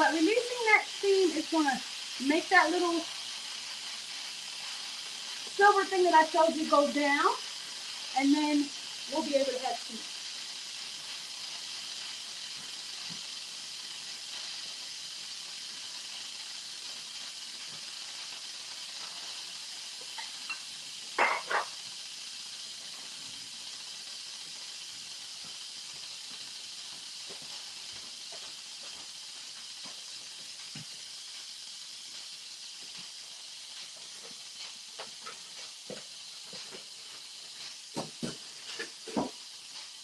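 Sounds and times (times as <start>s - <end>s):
pressure cooker steam hissing: 0.0s - 40.0s.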